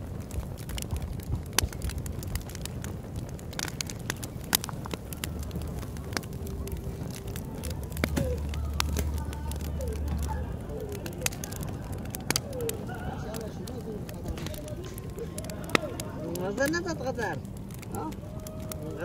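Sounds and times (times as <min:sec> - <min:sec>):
campfire crackling: 0:00.0 - 0:19.0
low steady rumble: 0:00.0 - 0:19.0
sharp fire pops: 0:00.0 - 0:19.0.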